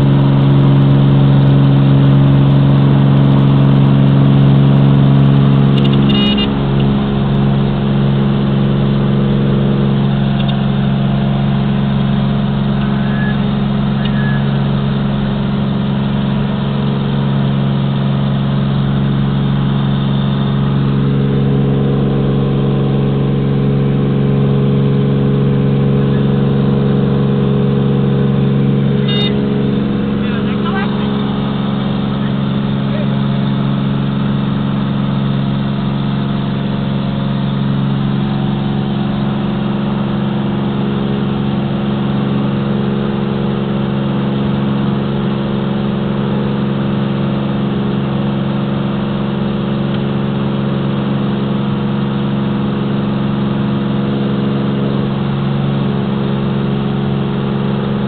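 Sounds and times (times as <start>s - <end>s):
plane engine drone in cabin: 0.0s - 58.0s.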